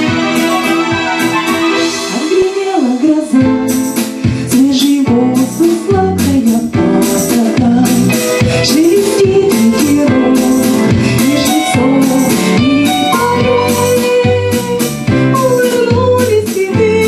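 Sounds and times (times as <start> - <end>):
instrumental accompaniment: 0.0 - 17.0
percussive beat: 0.0 - 17.0
person singing: 0.0 - 17.0.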